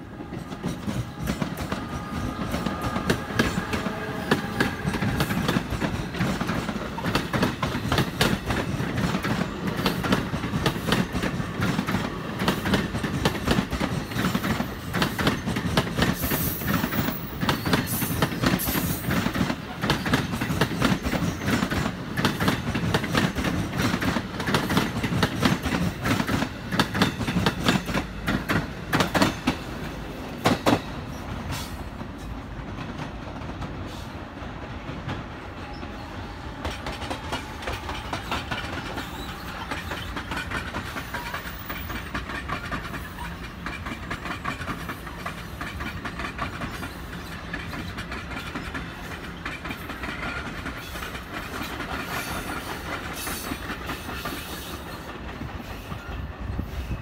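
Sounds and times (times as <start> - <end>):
train wheels clacking over rail joints: 0.0 - 56.9
train rumble: 0.0 - 57.0.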